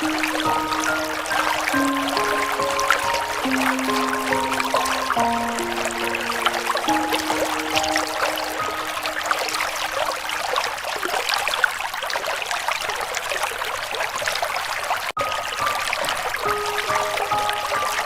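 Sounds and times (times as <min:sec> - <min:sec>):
river water flowing and trickling: 0:00.0 - 0:18.0.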